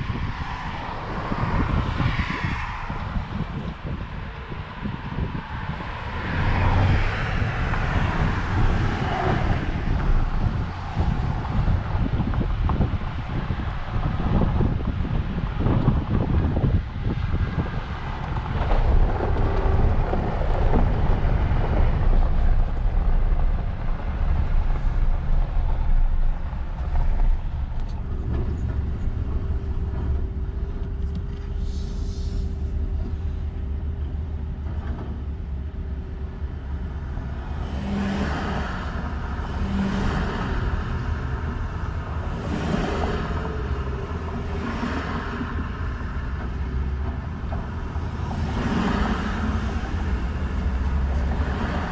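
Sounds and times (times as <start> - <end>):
motor vehicle rumbling: 0.0 - 51.9.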